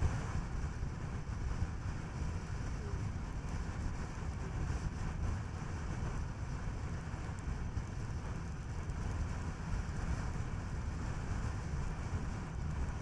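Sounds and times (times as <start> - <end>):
car tyre and engine rumble: 0.0 - 13.0
wind noise: 0.0 - 13.0.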